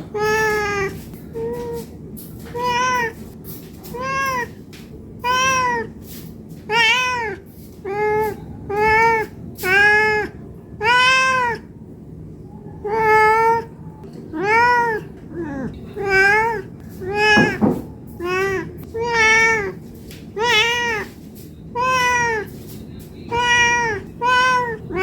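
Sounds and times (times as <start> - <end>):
cat meowing: 0.0 - 4.6, 5.2 - 6.0, 6.7 - 11.7, 12.8 - 22.6, 23.2 - 25.0.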